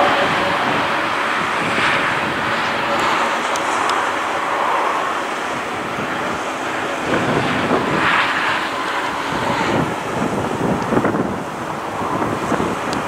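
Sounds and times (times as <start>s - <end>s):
jet engines humming: 0.0s - 13.0s
wind buffeting microphone: 0.0s - 13.0s.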